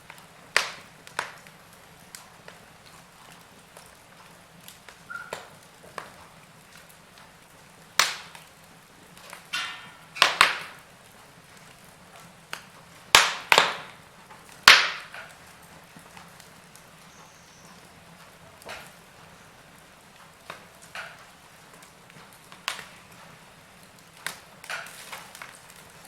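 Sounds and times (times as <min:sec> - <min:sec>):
burning wood popping and snapping: 0:00.0 - 0:26.0
fire hissing: 0:00.0 - 0:26.0.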